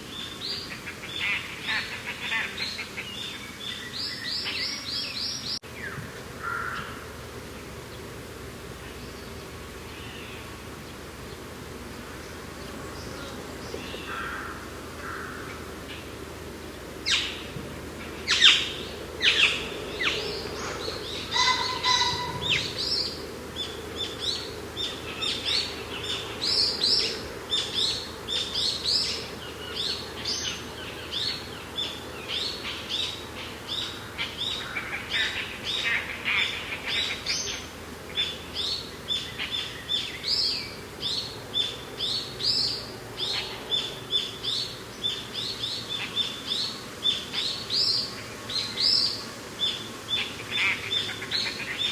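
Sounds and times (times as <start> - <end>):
faint steady background noise: 0.0 - 51.9
songbirds chirping: 0.0 - 51.9.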